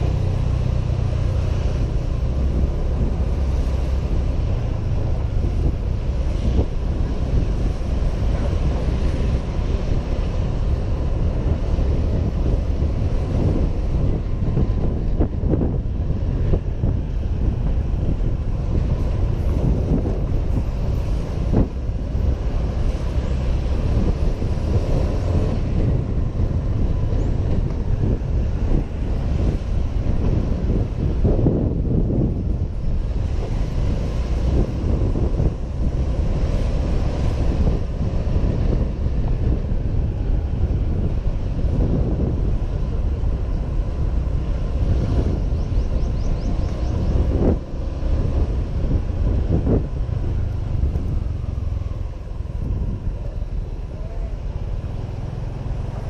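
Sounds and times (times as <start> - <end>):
road noise: 0.0 - 56.0
wind rumbling on microphone: 0.0 - 56.0.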